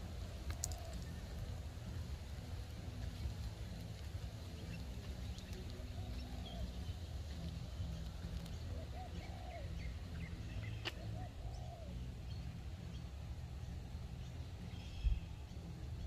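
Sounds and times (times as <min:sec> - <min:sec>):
steady low rumble: 0:00.0 - 0:16.0
faint bird calls: 0:00.2 - 0:01.5, 0:04.2 - 0:16.0.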